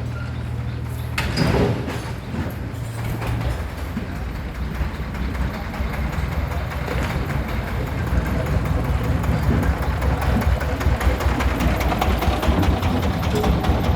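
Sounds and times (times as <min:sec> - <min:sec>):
diesel engine knocking: 0:00.0 - 0:13.9.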